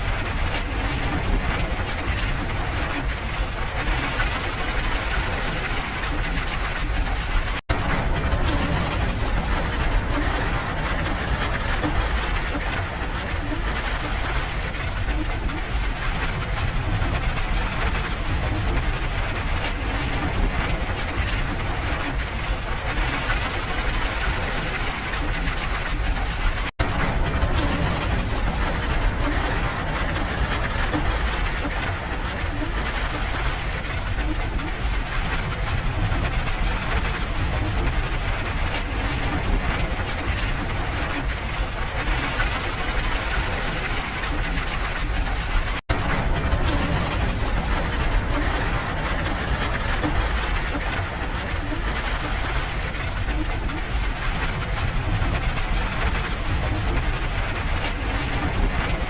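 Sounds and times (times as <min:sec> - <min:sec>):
steady rain: 0:00.0 - 0:59.0
deep low rumble: 0:03.8 - 0:59.0.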